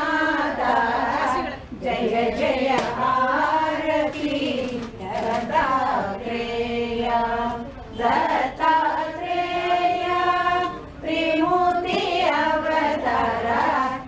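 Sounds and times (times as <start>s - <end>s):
women singing a hymn: 0.0s - 14.0s.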